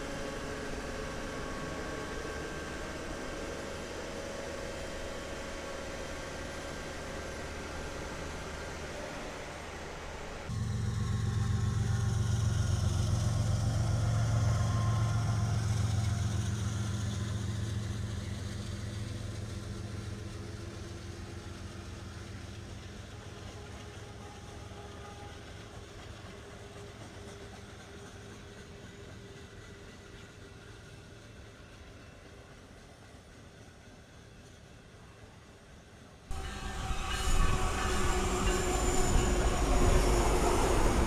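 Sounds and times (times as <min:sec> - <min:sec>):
diesel locomotive engine drone: 0:00.0 - 0:41.0.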